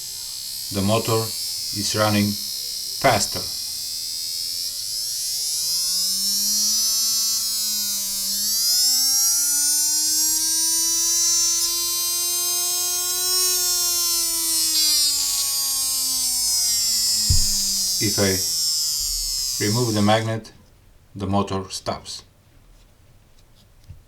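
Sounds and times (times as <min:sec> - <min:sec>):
motor brush hiss: 0:00.0 - 0:20.4
small electric motor whine: 0:00.0 - 0:20.4.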